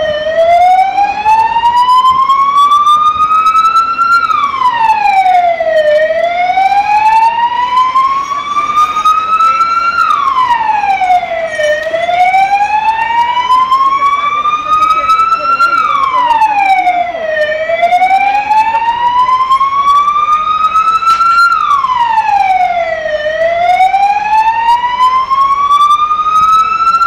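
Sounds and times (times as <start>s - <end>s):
emergency siren wailing: 0.0s - 27.0s.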